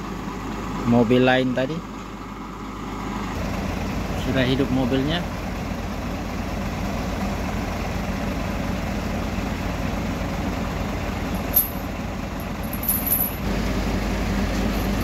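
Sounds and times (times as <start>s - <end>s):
diesel engines idling: 0.0s - 15.0s.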